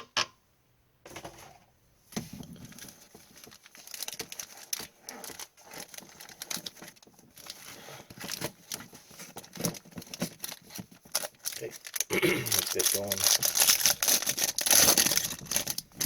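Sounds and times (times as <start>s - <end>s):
plastic packaging crinkling and tearing: 2.5s - 16.0s.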